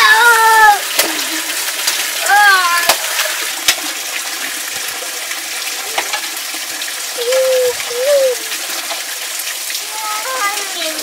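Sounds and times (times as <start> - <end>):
water pouring onto rocks: 0.0 - 11.0.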